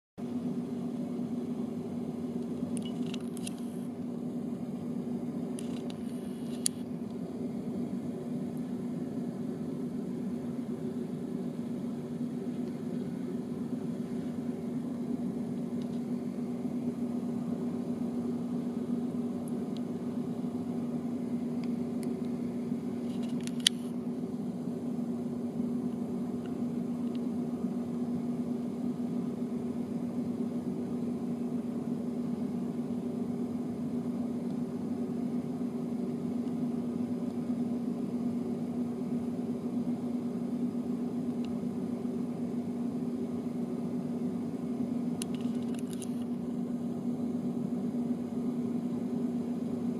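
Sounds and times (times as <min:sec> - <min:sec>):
low machine hum: 0:00.2 - 0:49.9.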